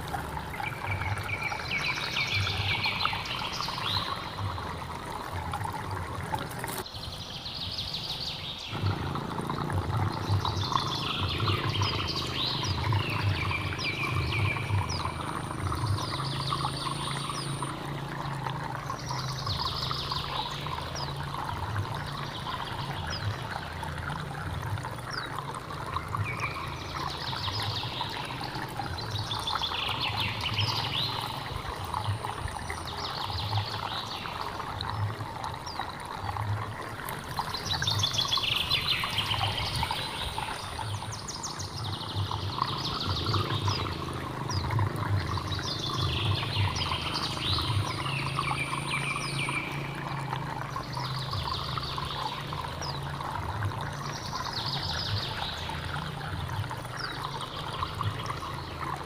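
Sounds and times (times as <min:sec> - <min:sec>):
birds chirping: 0:00.0 - 0:59.0
stream water running: 0:00.0 - 0:59.0.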